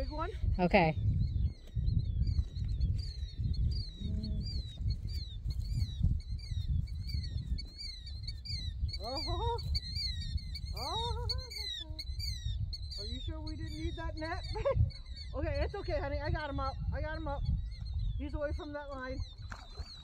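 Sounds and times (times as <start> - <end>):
high chirping calls: 0.0 - 20.0.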